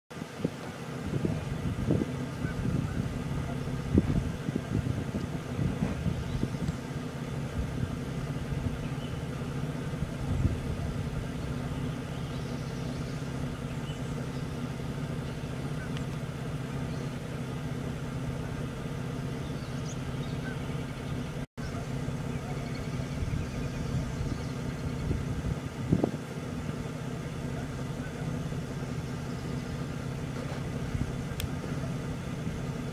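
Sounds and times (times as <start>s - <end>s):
engine idling: 0.1s - 32.9s.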